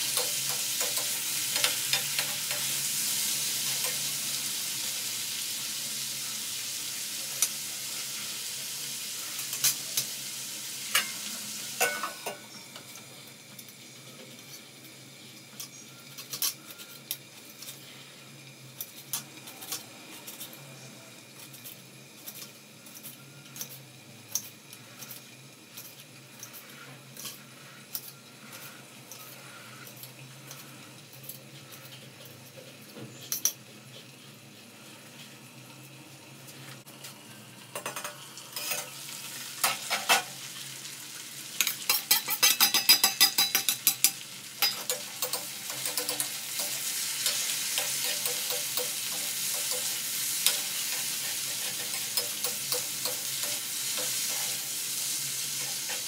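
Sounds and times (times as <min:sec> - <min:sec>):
potatoes sizzling in oil: 0:00.0 - 0:56.0.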